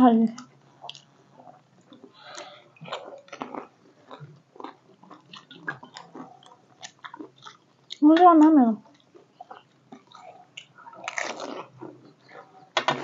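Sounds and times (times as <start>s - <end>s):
crisp food crunching while chewed: 0.4s - 8.0s, 8.8s - 12.6s.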